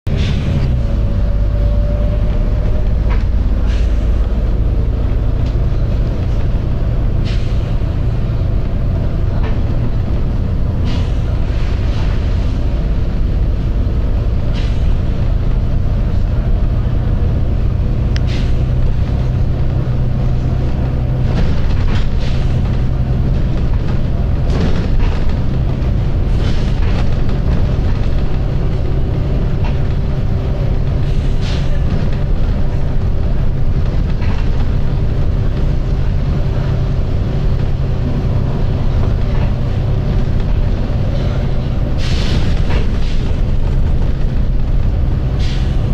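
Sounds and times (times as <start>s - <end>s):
bus diesel engine droning: 0.1s - 45.9s.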